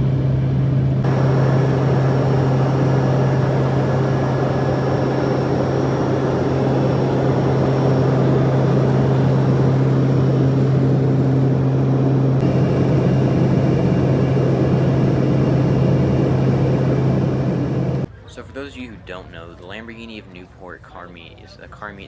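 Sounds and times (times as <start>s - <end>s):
car road and engine drone: 0.0s - 18.1s.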